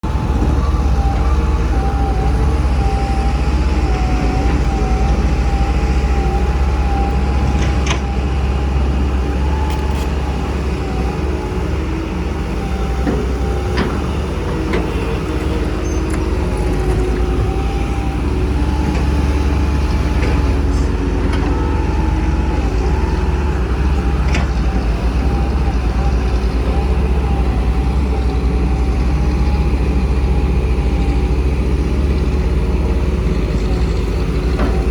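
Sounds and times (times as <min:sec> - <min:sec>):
diesel engines rumbling: 0:00.0 - 0:34.9.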